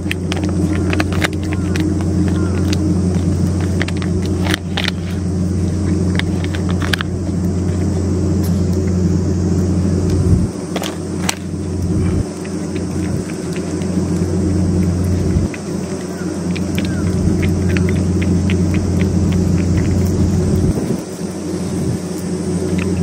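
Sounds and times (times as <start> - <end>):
cat eating from metal dish: 0.0 - 23.0
low mechanical hum: 0.0 - 23.0.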